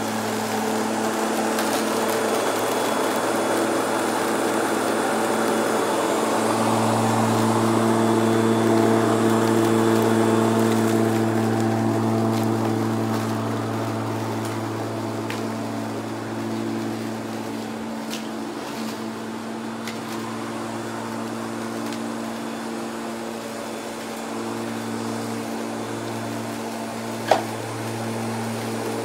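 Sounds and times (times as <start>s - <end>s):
electric lawnmower hum: 0.0s - 29.0s.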